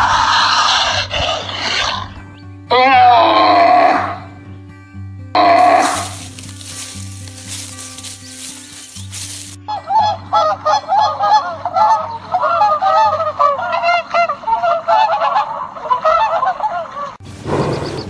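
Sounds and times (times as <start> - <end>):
flock of birds honking: 0.0 - 4.3, 5.4 - 17.2
soft background music: 0.1 - 15.5.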